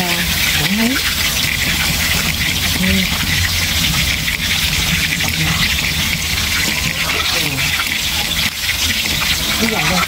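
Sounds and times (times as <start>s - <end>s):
low steady hum: 0.0s - 10.0s
tomatoes sizzling in oil: 0.0s - 10.0s.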